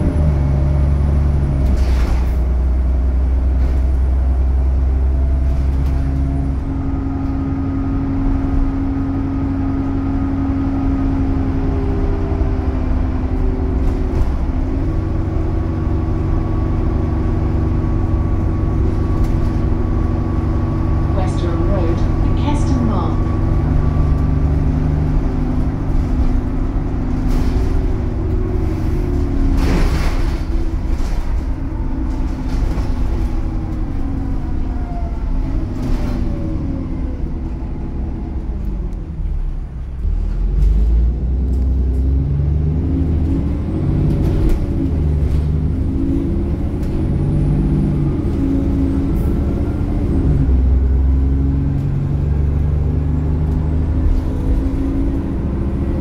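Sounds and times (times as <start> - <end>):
bus diesel engine and gear changes: 0.0 - 56.0.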